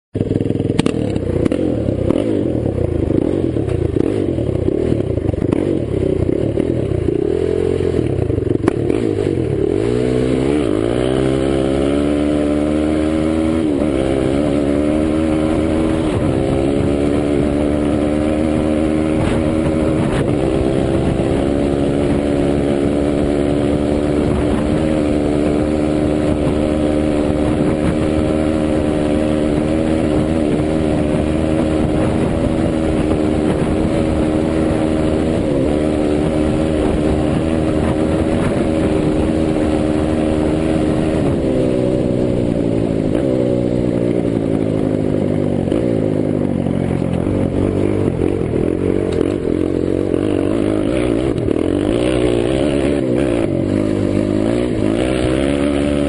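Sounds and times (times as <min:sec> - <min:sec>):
quad bike engine revving: 0:00.1 - 0:56.0.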